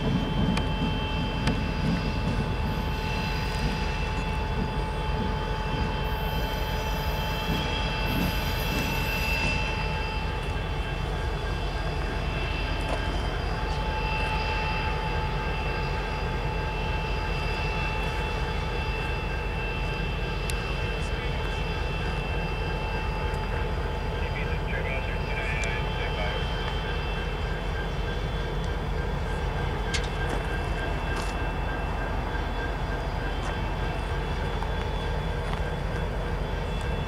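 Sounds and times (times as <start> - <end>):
high even whine: 0.0 - 37.0
locomotive engine rumble: 0.0 - 37.0.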